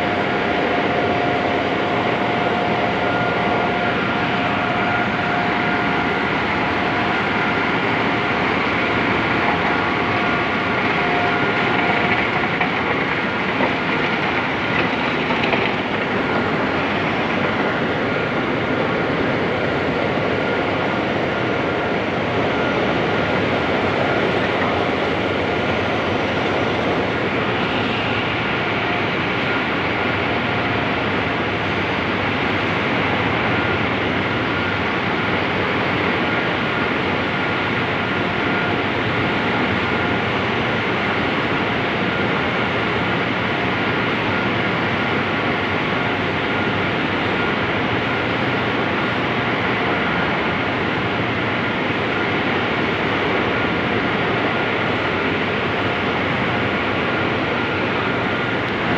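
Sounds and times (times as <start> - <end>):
faint high whine: 0.0 - 58.9
heavy industrial machinery running: 0.0 - 58.9.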